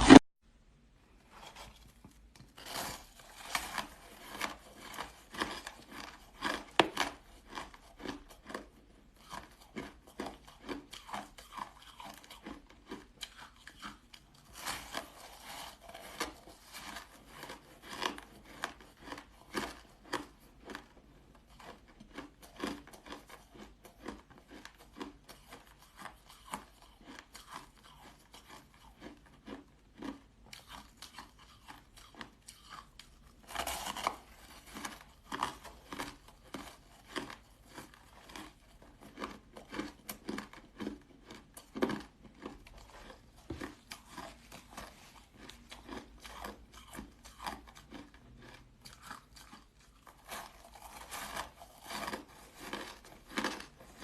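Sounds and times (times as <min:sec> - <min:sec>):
chewing crunchy shaved ice: 0:01.3 - 0:54.0.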